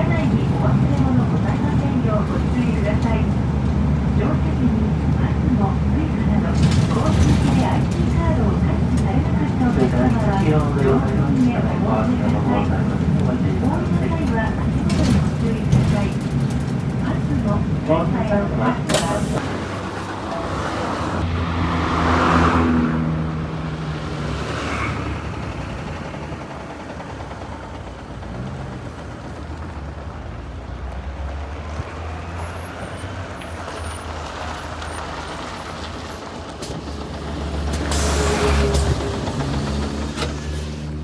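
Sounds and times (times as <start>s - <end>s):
bus diesel engine running: 0.0s - 41.0s.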